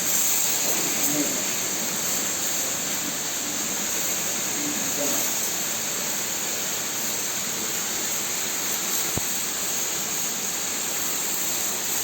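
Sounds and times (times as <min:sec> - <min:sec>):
high-pressure water jet hissing: 0:00.0 - 0:12.0.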